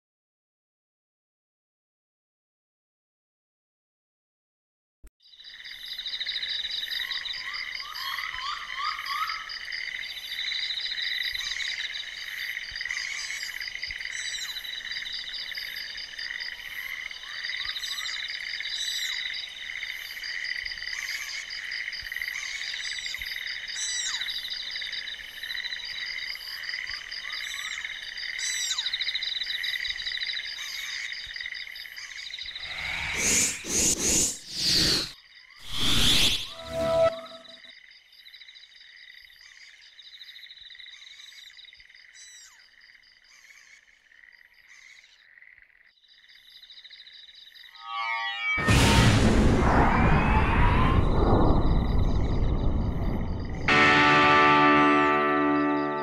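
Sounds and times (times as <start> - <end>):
frogs and insects trilling: 5.2 - 48.6, 50.0 - 53.7.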